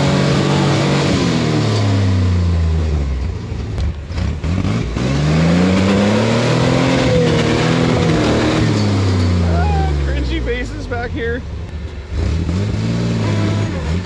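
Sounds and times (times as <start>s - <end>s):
off-road engine revving: 0.0s - 14.0s.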